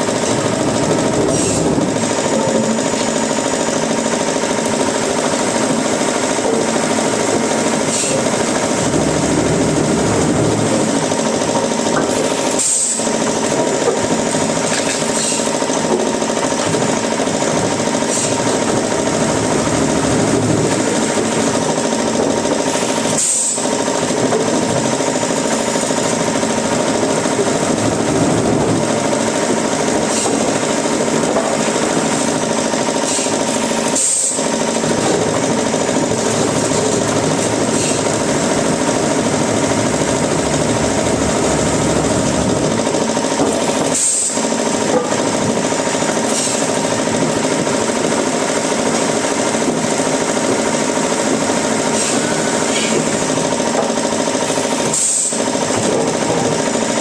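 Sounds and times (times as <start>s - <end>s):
machinery humming and rattling: 0.0s - 57.0s.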